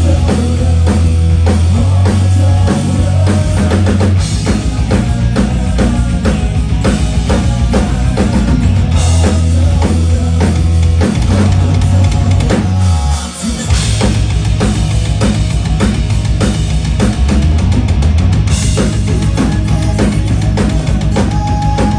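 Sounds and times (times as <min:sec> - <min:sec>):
bass line: 0:00.0 - 0:21.9
drum kit beat: 0:00.0 - 0:21.9
rock band playing: 0:00.0 - 0:21.9.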